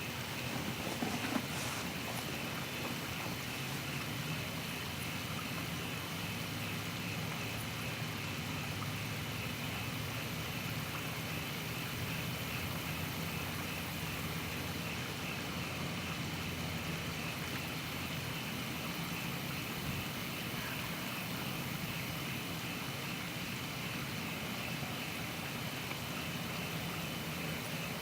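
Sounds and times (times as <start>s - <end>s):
low droning roar with hiss: 0.0s - 28.0s.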